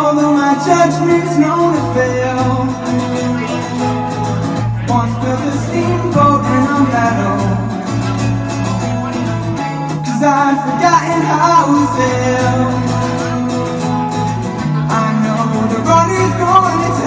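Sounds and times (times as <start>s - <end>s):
acoustic guitar: 0.0s - 17.0s
man singing: 0.0s - 17.0s.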